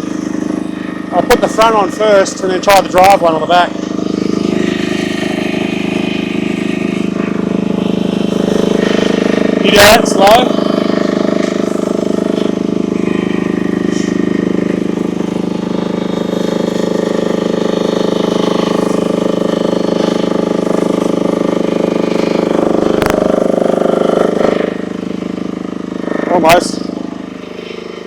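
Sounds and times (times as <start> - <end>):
excavator engine running: 0.0 - 28.0
tracks moving: 0.0 - 28.0.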